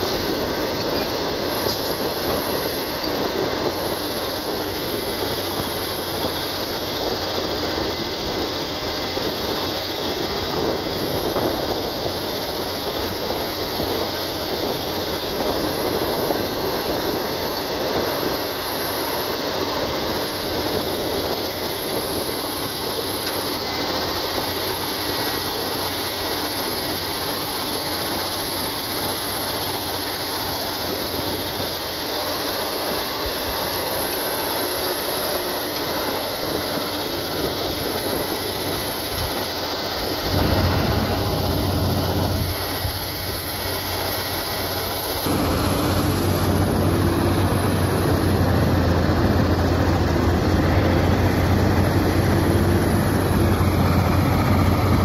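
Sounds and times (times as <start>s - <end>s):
excavator diesel engine and hydraulics: 0.0s - 55.0s.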